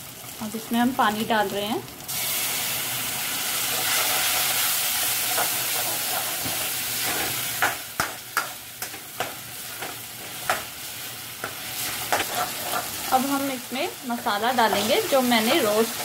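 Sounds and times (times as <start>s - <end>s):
water sizzling in hot pan: 0.0s - 16.0s.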